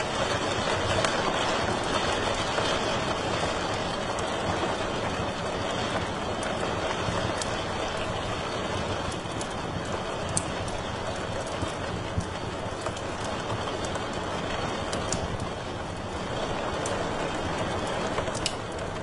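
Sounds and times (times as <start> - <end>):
fire rushing hiss: 0.0 - 19.0
wood fire crackles and pops: 0.0 - 19.0.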